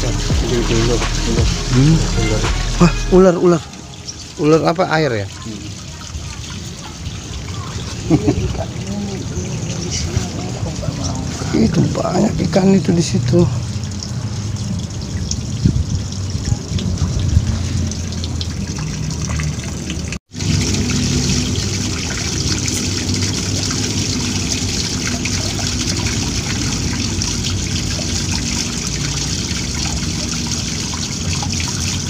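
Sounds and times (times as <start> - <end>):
stream water running: 0.0 - 32.0.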